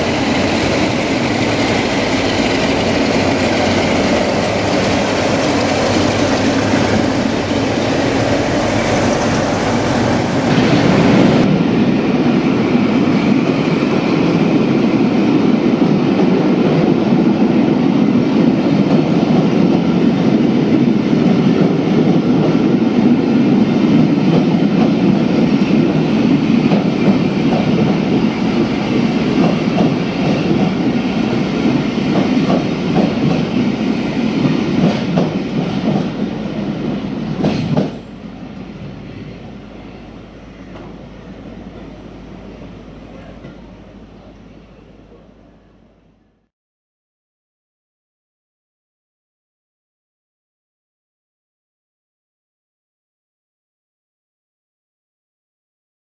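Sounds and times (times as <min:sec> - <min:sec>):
diesel locomotive engine running: 0:00.0 - 0:46.1
train coaches rolling on rails: 0:00.0 - 0:46.1.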